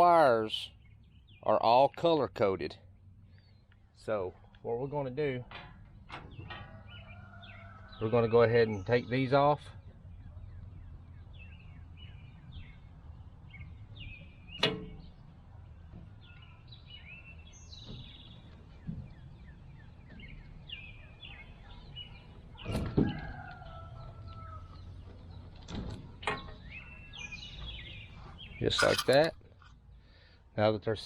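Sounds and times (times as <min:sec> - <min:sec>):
songbirds chirping: 0:00.0 - 0:22.5, 0:26.5 - 0:30.4.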